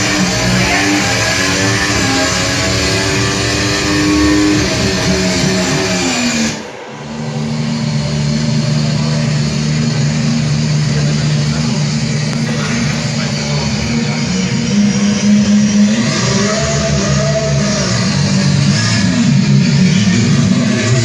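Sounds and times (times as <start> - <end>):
racing engine revving: 0.0 - 21.0
steady engine drone: 0.0 - 21.0.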